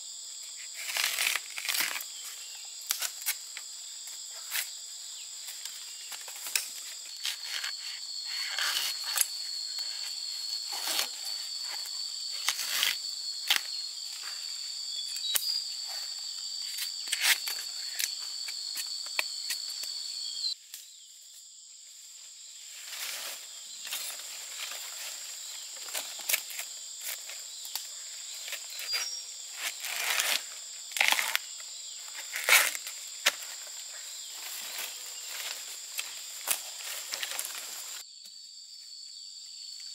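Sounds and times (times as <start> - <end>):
high even insect trill: 0.0 - 39.9
insects trilling and chirping: 0.0 - 39.9.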